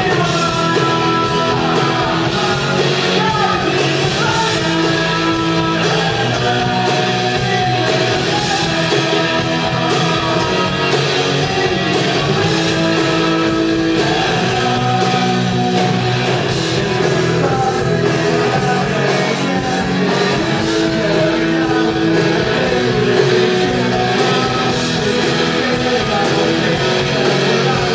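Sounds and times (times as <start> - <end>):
person singing: 0.0 - 27.9
rock band playing live: 0.0 - 27.9.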